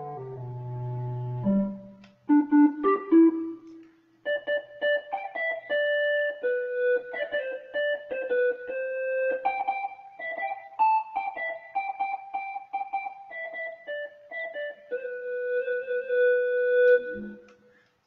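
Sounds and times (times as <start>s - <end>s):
electronic wind instrument melody: 0.0s - 17.5s.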